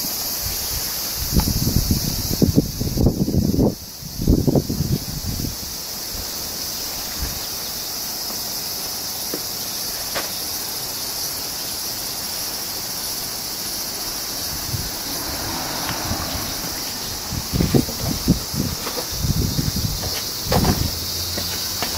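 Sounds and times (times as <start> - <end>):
high-pitched insect chorus: 0.0 - 21.9.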